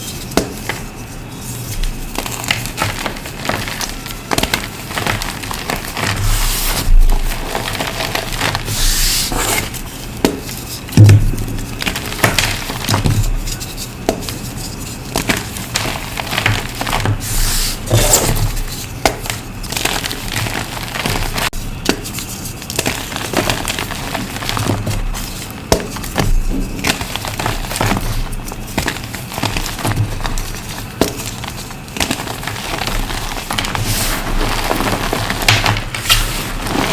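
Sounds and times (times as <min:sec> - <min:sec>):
chalk blocks crunching: 0:00.0 - 0:36.9.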